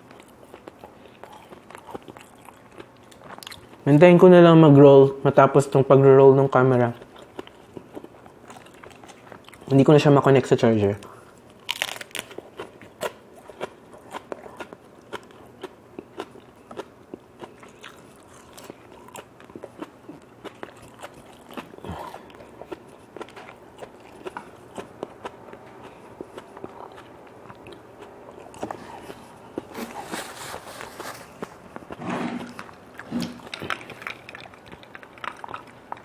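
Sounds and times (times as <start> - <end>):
person chewing crunchy food: 0.0 - 3.9, 6.8 - 9.8, 11.0 - 36.0.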